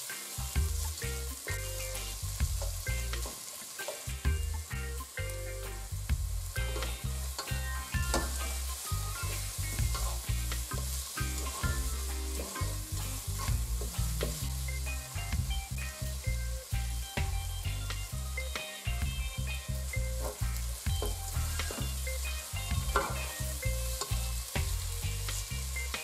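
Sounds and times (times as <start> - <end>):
onion and tomato sizzling: 0.0 - 26.0.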